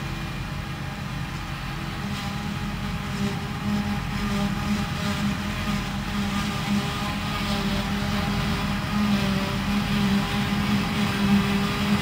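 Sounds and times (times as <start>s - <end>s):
steady engine drone: 0.0s - 12.0s
forage harvester chopping grass: 1.3s - 12.0s.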